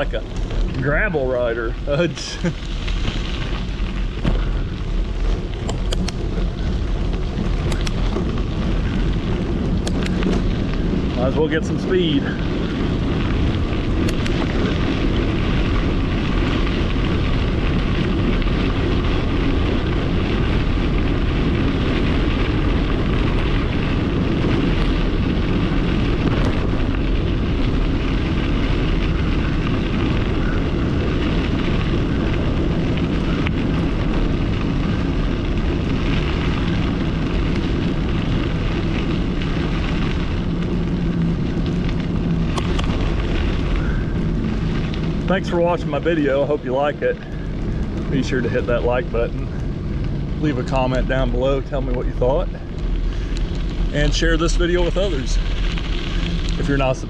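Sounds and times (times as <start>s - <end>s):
tyres rumbling on gravel: 0.0s - 57.0s
wind buffeting microphone: 0.0s - 57.0s.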